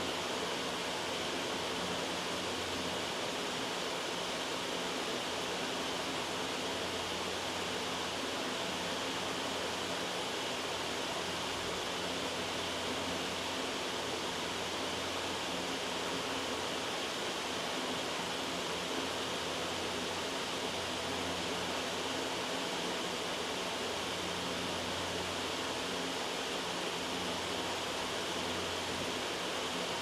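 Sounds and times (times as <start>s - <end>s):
white noise hiss: 0.0s - 30.0s.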